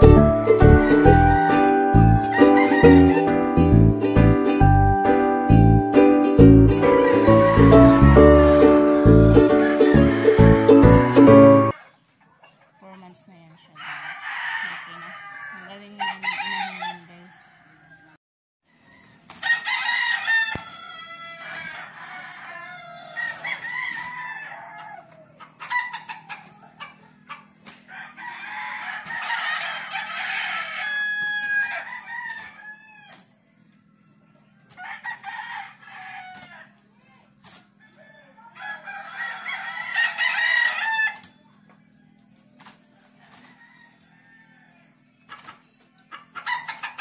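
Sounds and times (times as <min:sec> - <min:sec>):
roosters crowing: 0:00.0 - 0:03.8, 0:06.7 - 0:47.0
chickens clucking: 0:00.0 - 0:47.0.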